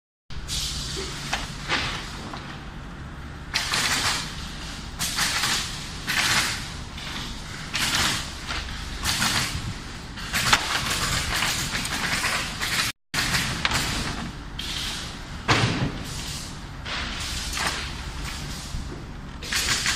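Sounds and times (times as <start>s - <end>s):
low machine hum: 0.3s - 19.6s.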